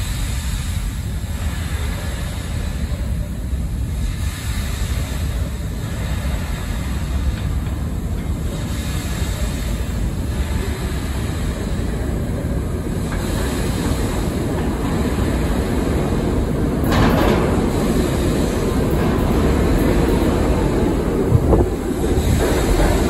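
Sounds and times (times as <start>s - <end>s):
burst of hiss: 0.0s - 23.0s
subway train rumbling: 0.0s - 23.0s.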